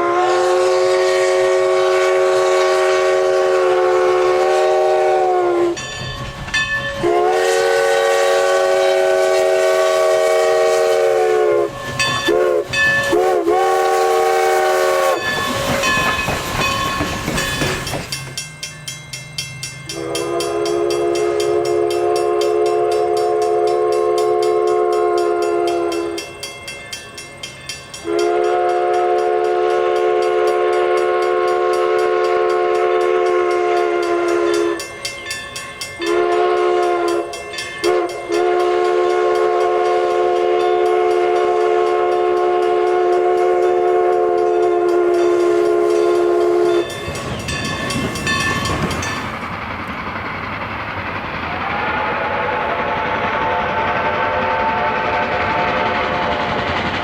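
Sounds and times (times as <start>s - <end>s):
steam locomotive whistle chord: 0.0s - 17.9s, 19.8s - 49.5s, 51.4s - 56.7s.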